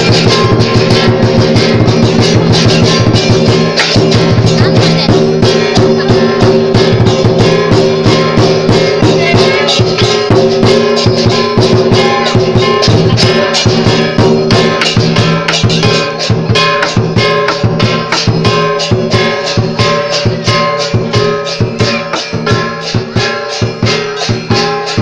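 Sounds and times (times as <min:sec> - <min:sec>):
cymbals clashing: 0:00.0 - 0:25.0
drumming: 0:00.0 - 0:25.0
lion dance percussion music: 0:00.0 - 0:25.0.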